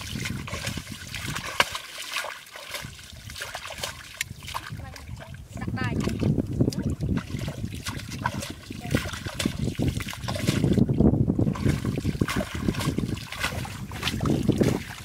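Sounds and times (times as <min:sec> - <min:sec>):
muddy water splashing: 0:00.0 - 0:15.0.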